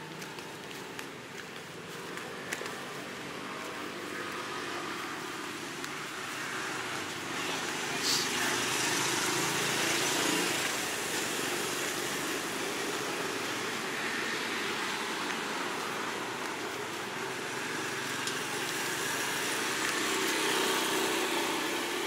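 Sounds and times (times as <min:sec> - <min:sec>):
street traffic hiss and rumble: 0:00.0 - 0:22.0
vehicle passing: 0:01.7 - 0:22.0.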